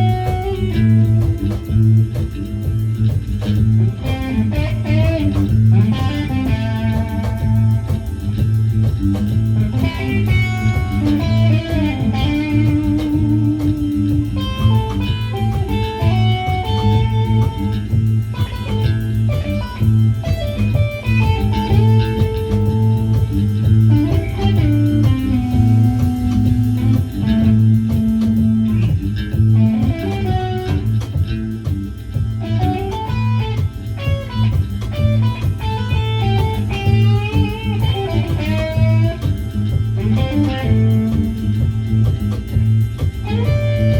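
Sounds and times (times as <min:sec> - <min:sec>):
electric guitar lead lines: 0:00.0 - 0:43.9
steady low accompaniment: 0:00.0 - 0:43.9.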